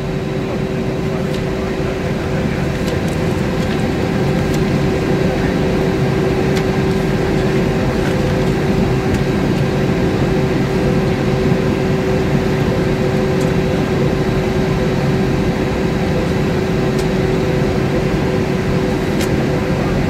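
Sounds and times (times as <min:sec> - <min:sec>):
airliner cabin engine drone: 0:00.0 - 0:20.0
steady hum tones: 0:00.0 - 0:20.0.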